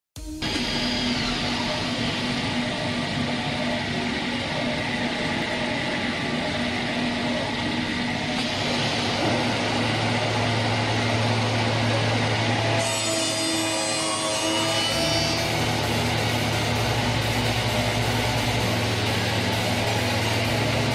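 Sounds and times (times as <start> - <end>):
wood lathe cutting: 0.5 - 20.9.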